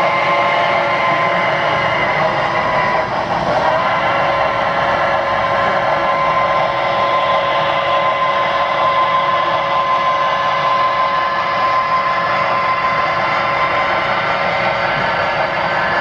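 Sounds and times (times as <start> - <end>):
steam locomotive venting steam: 0.0 - 16.0.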